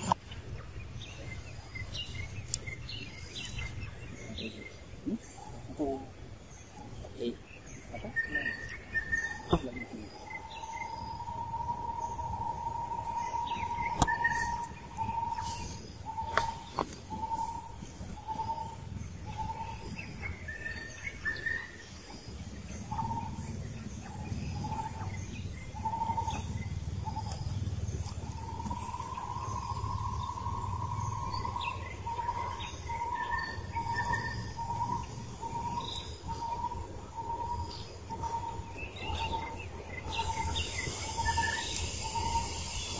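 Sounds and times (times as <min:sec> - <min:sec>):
birds calling: 0:00.0 - 0:42.9
higher bird chirps: 0:00.0 - 0:42.9
low rumbling background noise: 0:00.0 - 0:42.9.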